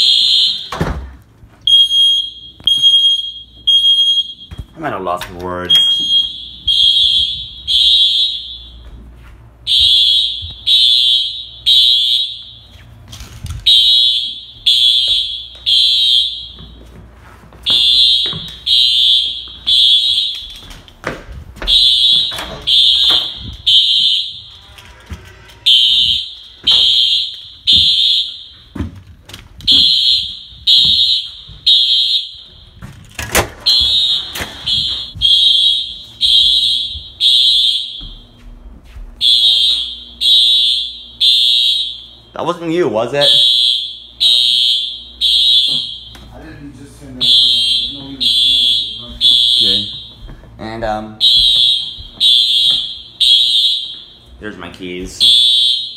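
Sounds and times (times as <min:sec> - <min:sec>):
fire alarm beeping: 0:00.0 - 0:01.0, 0:01.6 - 0:21.0, 0:21.6 - 0:28.9, 0:29.6 - 0:46.4, 0:47.1 - 0:50.5, 0:51.1 - 0:55.9.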